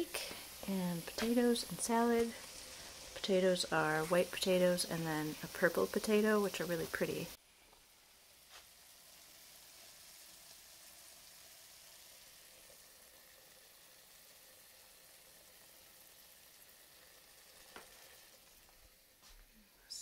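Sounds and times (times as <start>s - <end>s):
food sizzling in a pan: 0.0s - 19.4s.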